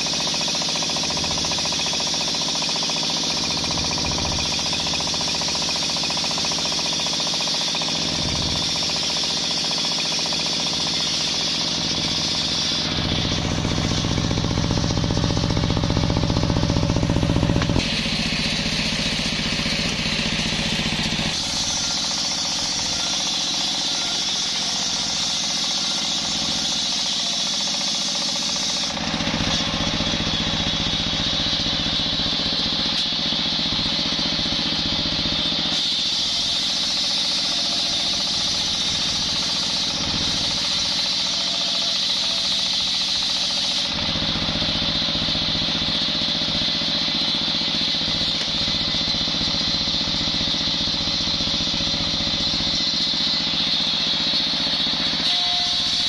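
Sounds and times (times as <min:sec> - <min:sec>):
circular saw cutting log: 0:00.0 - 0:56.0.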